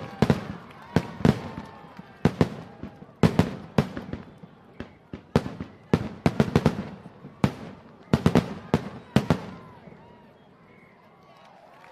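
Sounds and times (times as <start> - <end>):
fireworks bangs with echo: 0.0 - 10.1.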